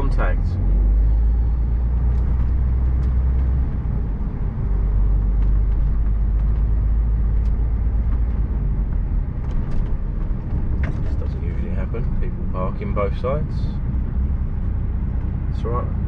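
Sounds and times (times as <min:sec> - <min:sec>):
diesel truck engine rumble: 0:00.0 - 0:16.0.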